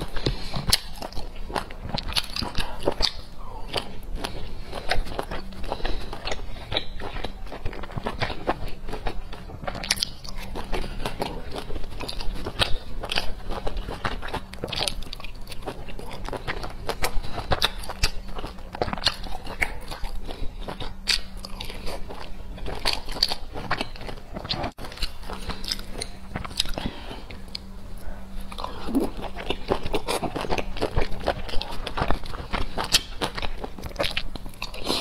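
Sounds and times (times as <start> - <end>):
person chewing dumplings: 0.0 - 35.0.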